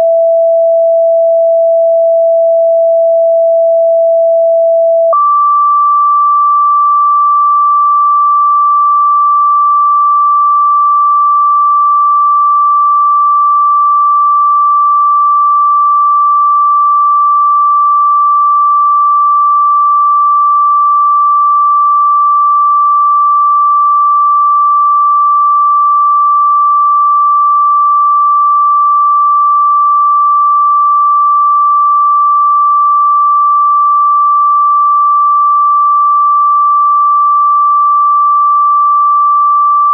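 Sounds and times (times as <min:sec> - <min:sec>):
pure electronic sine tone: 0:00.0 - 0:39.9.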